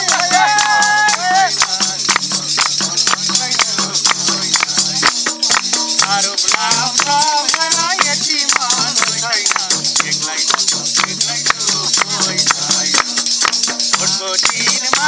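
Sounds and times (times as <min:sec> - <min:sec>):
person singing: 0:00.0 - 0:13.3, 0:13.9 - 0:15.0
drum beating folk rhythm: 0:00.0 - 0:15.0
hand claps: 0:00.0 - 0:15.0
tambourine jingles: 0:00.0 - 0:15.0.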